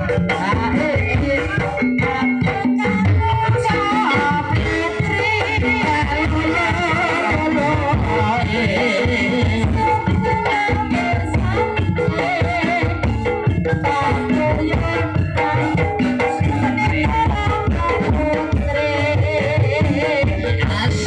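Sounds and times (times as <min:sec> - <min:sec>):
gamelan ensemble playing: 0:00.0 - 0:21.0
hand drums steady beat: 0:00.0 - 0:21.0
person singing: 0:00.0 - 0:21.0.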